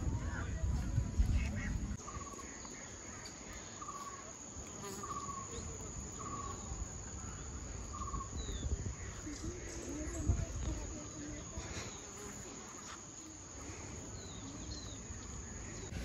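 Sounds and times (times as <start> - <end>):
high insect drone: 0.4 - 16.0.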